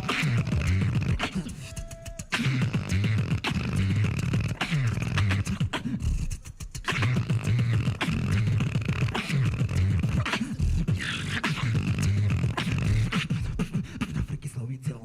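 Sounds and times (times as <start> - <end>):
beatboxing: 0.0 - 15.0.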